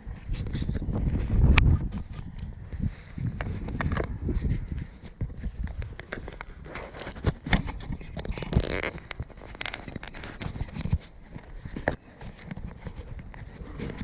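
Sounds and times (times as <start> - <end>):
footsteps on stony ground: 0.0 - 14.0.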